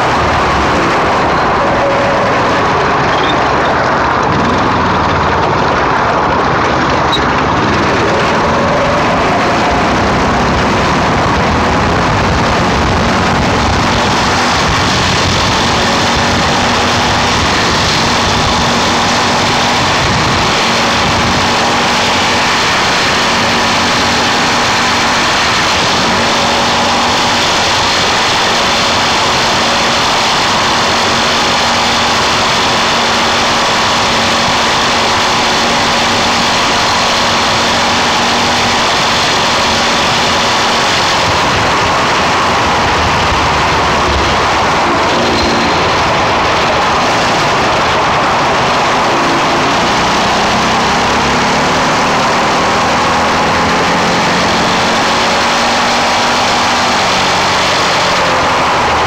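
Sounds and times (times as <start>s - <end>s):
broad rushing noise: 0.0s - 59.0s.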